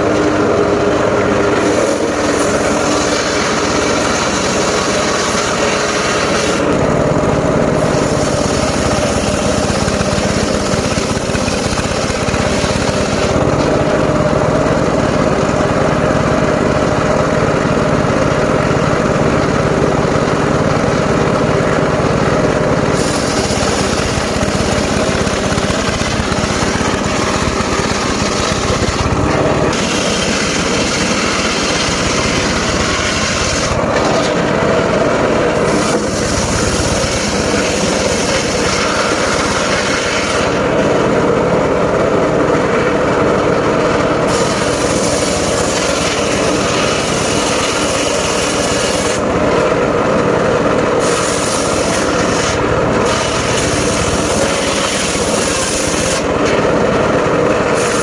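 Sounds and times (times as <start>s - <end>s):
sawmill blade sawing logs: 0.0s - 58.0s
sawmill engine running: 0.0s - 58.0s.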